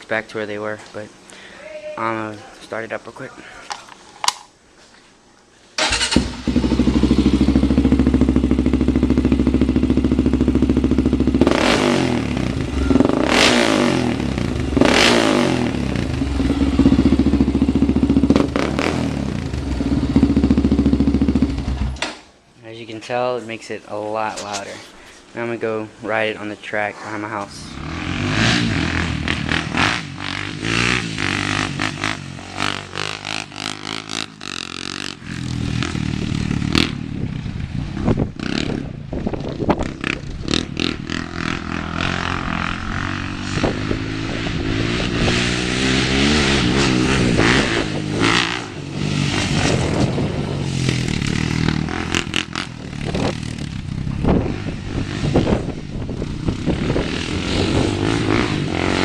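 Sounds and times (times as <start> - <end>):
quad engine revving: 5.8 - 22.0, 27.6 - 59.0.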